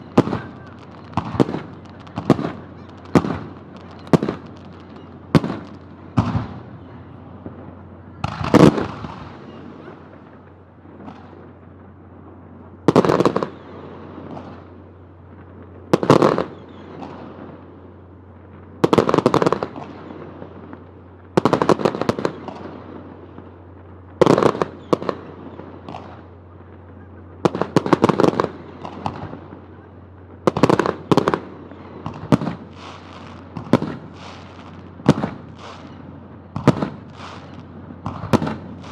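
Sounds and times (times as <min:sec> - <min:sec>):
echoing crackle: 0:00.0 - 0:38.9
fireworks bangs: 0:00.0 - 0:38.9.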